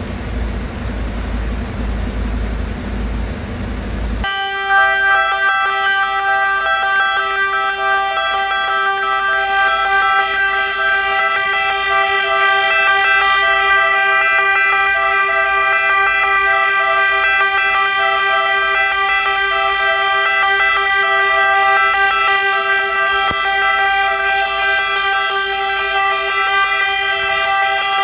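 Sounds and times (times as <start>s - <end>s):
fire engine horns sounding: 4.2s - 28.0s.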